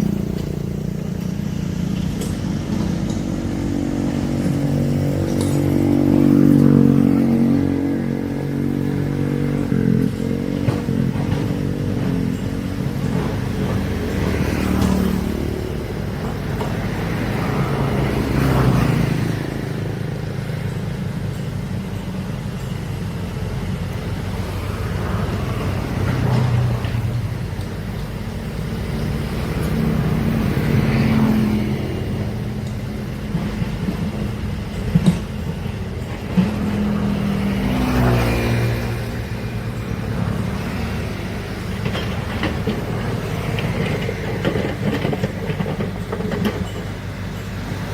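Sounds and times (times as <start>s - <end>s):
large diesel engine revving: 0.0s - 47.9s.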